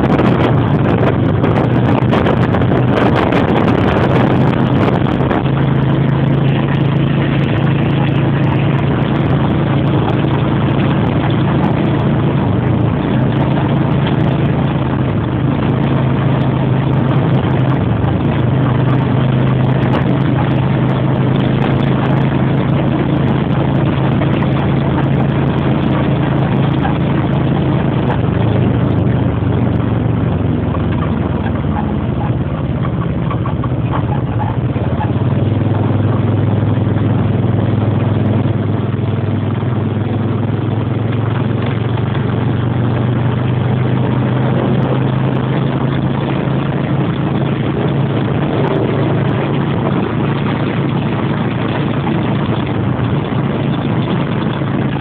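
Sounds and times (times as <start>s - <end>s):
motorcycle engine droning: 0.0s - 55.0s
rushing wind noise: 0.0s - 55.0s.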